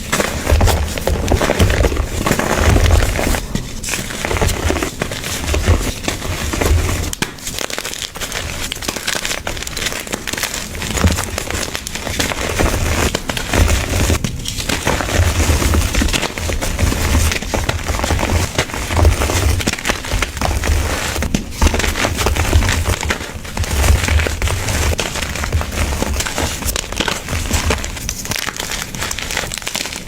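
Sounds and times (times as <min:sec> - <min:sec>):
chalk blocks crunching: 0:00.0 - 0:30.0.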